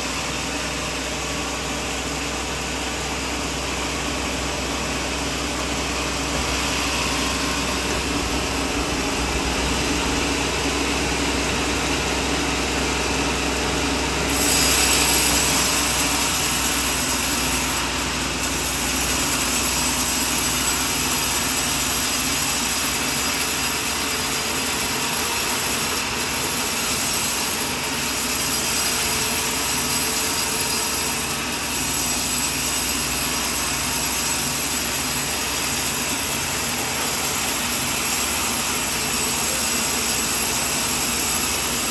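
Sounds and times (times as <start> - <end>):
sawmill saw cutting wood: 4.5 - 41.9.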